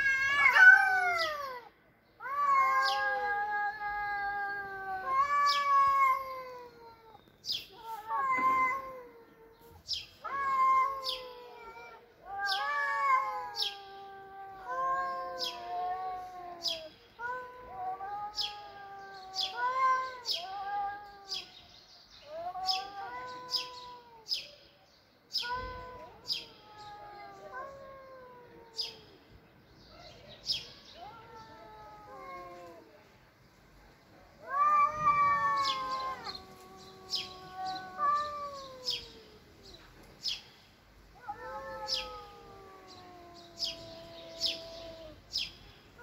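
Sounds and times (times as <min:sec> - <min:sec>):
cats yowling: 0:00.0 - 0:21.6, 0:22.2 - 0:24.4, 0:25.4 - 0:29.2, 0:30.0 - 0:33.0, 0:34.3 - 0:40.0, 0:41.2 - 0:45.4.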